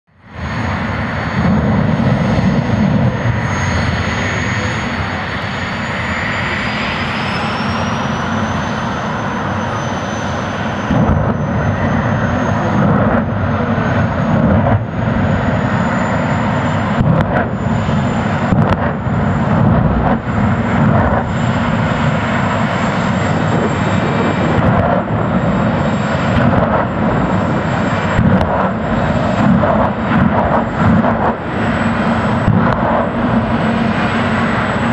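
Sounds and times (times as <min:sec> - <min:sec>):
high whine: 0:00.1 - 0:34.9
jet engine roaring: 0:00.1 - 0:34.9.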